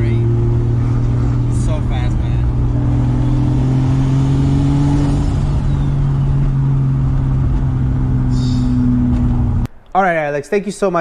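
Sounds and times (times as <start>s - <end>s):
car engine droning: 0.0s - 9.7s
road noise: 0.0s - 11.0s.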